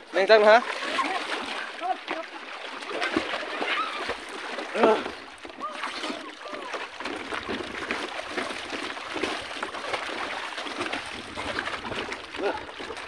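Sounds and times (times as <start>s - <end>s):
water splashing from swimming: 0.0s - 13.0s.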